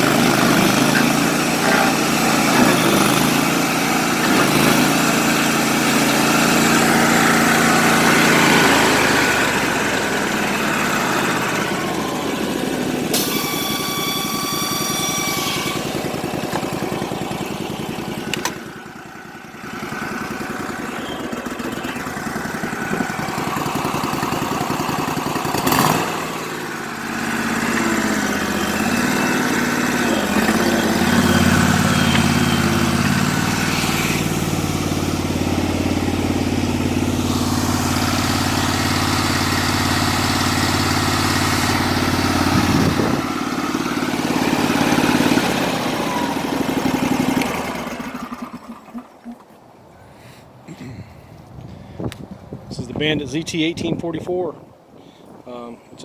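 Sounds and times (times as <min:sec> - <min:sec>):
stump grinder engine running: 0:00.0 - 0:49.7.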